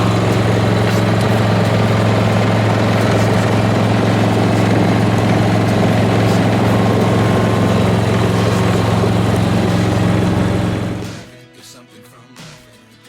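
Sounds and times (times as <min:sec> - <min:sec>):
machine humming: 0:00.0 - 0:11.3.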